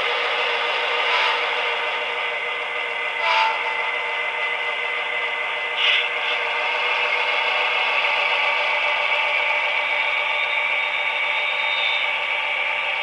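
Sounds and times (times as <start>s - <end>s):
model wheels whirring on track: 0.0s - 13.0s
diesel engine sound from speaker: 1.1s - 13.0s.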